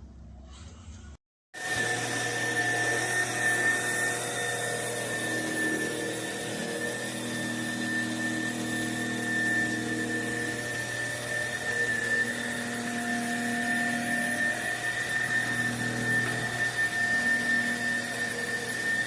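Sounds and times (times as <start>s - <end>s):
vacuum cleaner motor whining: 1.5s - 19.0s.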